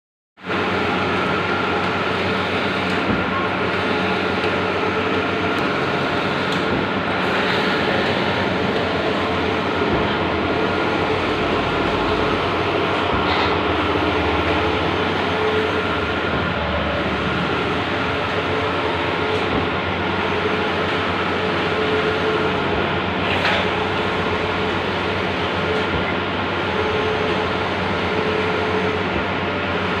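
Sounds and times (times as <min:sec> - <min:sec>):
printer mechanical hum: 0:00.4 - 0:30.0.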